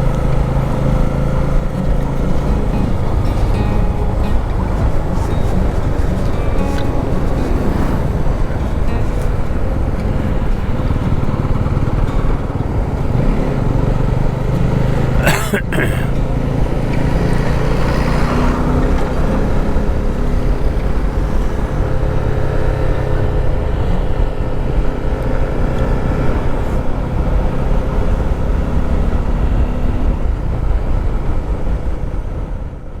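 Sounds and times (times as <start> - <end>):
road or wind noise: 0.0 - 33.0
vehicle engine droning: 0.0 - 33.0.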